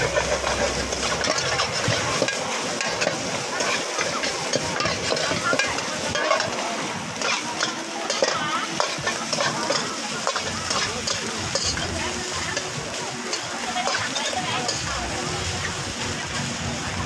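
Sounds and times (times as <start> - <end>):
metal ladle scraping a pan: 0.0 - 15.2
rice sizzling in a wok: 0.0 - 17.0.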